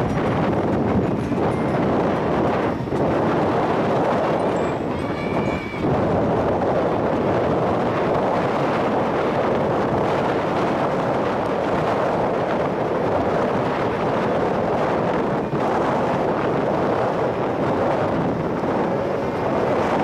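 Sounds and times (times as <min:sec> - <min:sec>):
ship engine noise: 0:00.0 - 0:20.0
water beneath ship: 0:00.0 - 0:20.0
wind rushing over microphone: 0:00.0 - 0:20.0.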